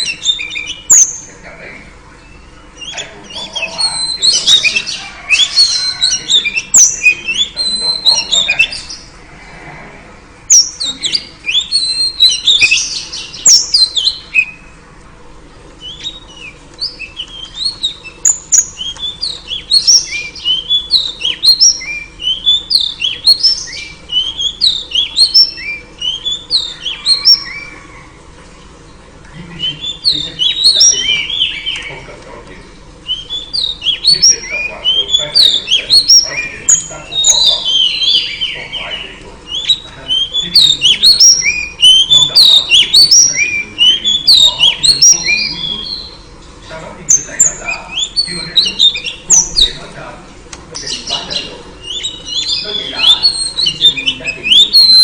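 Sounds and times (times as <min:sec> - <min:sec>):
magpie-robin chirping: 0:00.0 - 0:09.1, 0:10.4 - 0:14.8, 0:15.8 - 0:28.2, 0:28.8 - 0:32.2, 0:33.0 - 0:46.4, 0:47.1 - 0:50.0, 0:50.7 - 0:55.0.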